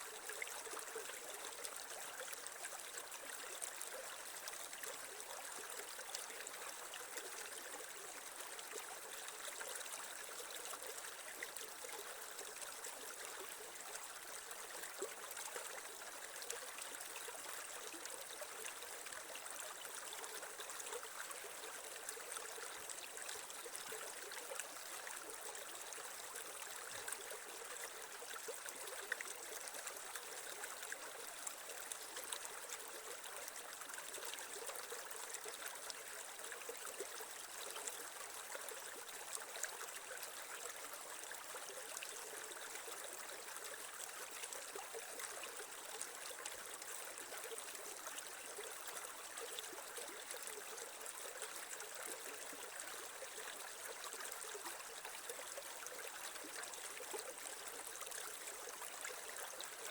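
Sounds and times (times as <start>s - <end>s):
creek water trickling over stones: 0.0s - 59.9s.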